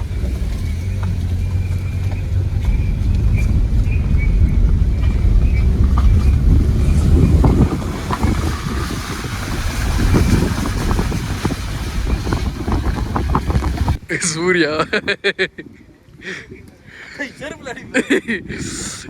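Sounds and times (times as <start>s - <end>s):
wind buffeting microphone: 0.0s - 14.1s, 14.8s - 19.0s.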